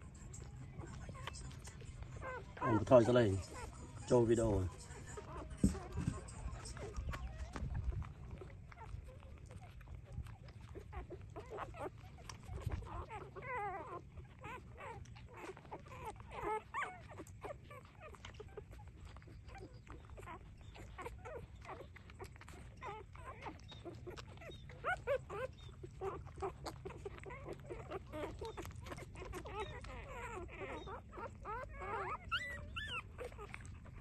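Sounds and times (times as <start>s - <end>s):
puppies squeaking and whimpering: 0.0s - 34.0s.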